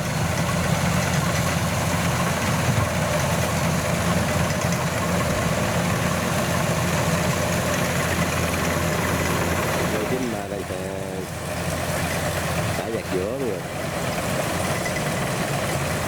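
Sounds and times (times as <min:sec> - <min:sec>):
combine harvester diesel engine drone: 0:00.0 - 0:16.0.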